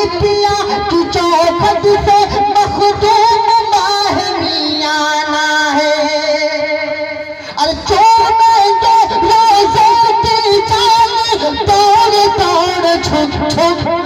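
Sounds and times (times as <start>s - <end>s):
man singing through pa: 0.0s - 14.0s.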